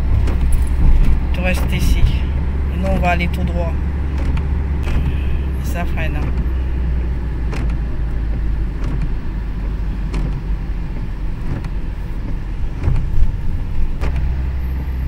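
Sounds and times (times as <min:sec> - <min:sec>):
car engine rumble: 0:00.0 - 0:15.0
tyres on wet road: 0:00.0 - 0:15.0.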